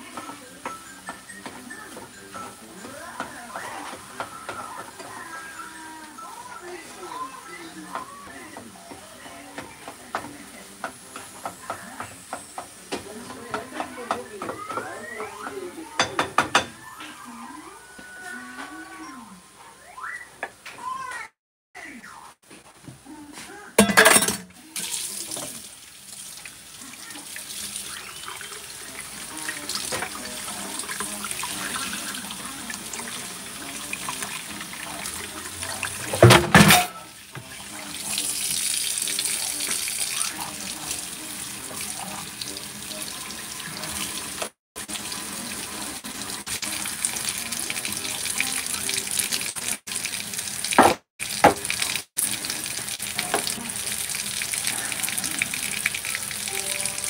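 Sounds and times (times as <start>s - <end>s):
food sizzling in pans: 0.0s - 16.9s, 24.1s - 36.3s, 36.9s - 57.0s.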